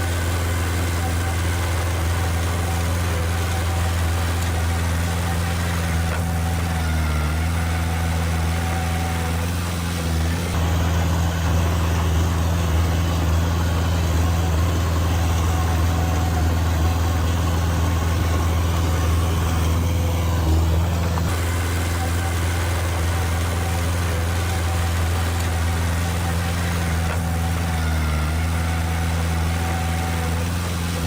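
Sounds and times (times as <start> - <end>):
heavy diesel engine humming: 0.0 - 31.0.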